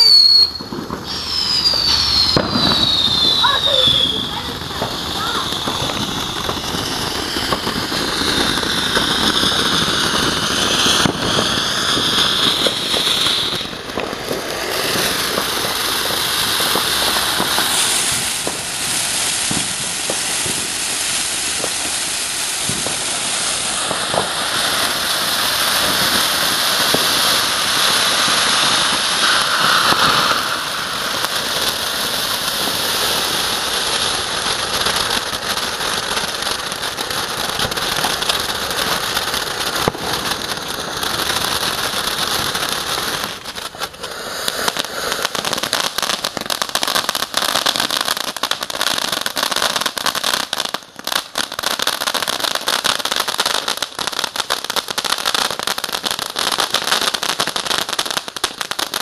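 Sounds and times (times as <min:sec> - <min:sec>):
firework hissing and crackling: 0:00.0 - 0:59.0.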